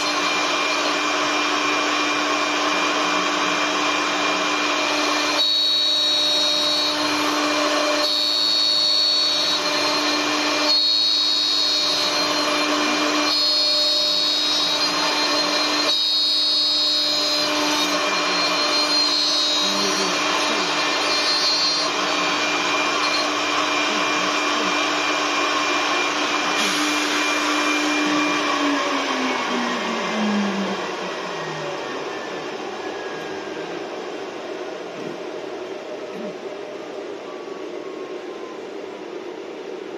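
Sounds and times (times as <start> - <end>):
machine motor hum: 0.0 - 39.8.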